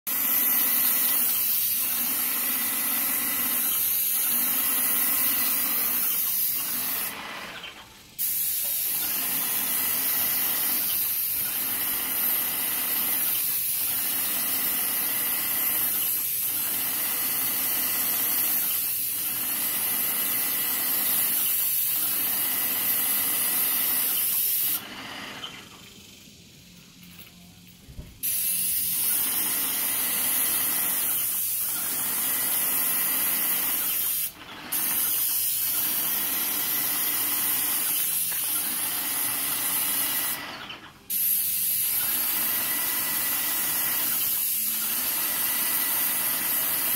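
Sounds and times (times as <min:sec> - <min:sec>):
paint spray gun hissing: 0:00.1 - 0:26.3, 0:28.2 - 0:46.9.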